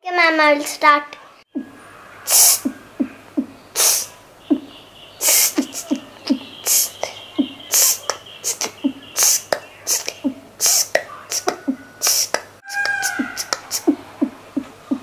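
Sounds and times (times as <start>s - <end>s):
child beatboxing: 2.3s - 15.0s.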